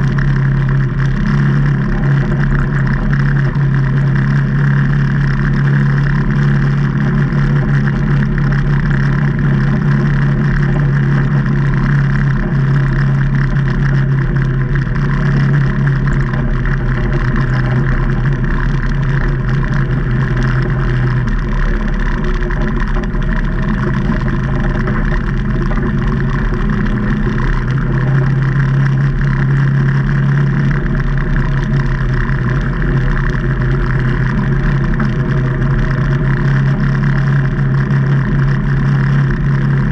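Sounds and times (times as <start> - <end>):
vehicle engine running while driving: 0.0 - 39.9.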